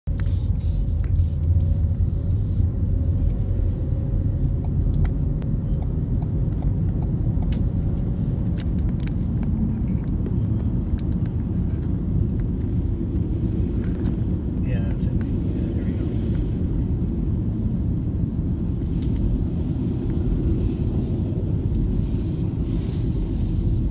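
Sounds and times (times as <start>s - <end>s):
car road and engine rumble: 0.0s - 23.9s.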